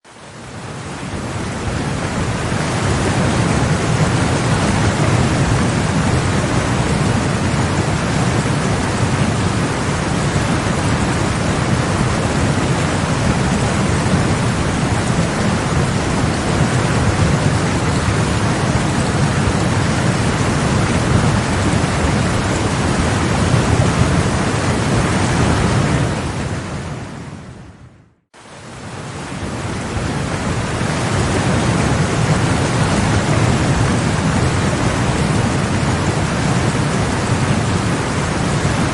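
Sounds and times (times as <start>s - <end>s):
waterfall rushing: 0.0s - 27.2s, 28.4s - 38.9s.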